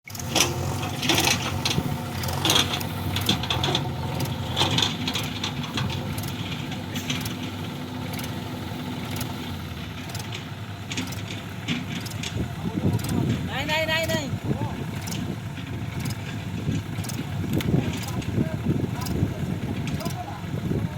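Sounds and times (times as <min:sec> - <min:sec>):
heavy machinery engine running: 0:00.0 - 0:20.9
metallic clanks and rattles: 0:00.1 - 0:20.4.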